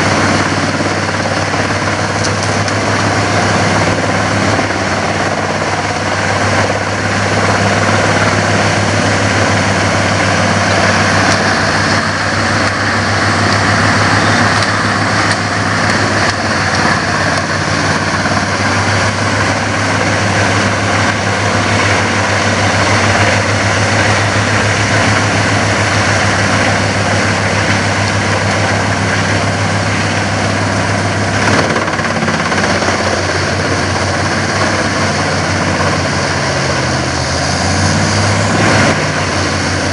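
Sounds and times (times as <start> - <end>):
dense rushing noise: 0.0 - 39.9
woodchipper engine hum: 0.0 - 39.9.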